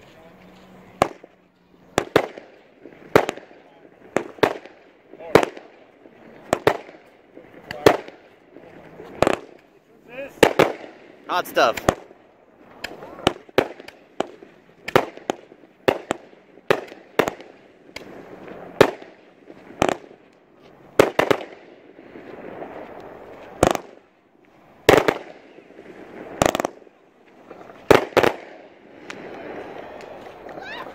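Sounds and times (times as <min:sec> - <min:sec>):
fireworks bangs: 0:00.9 - 0:30.9.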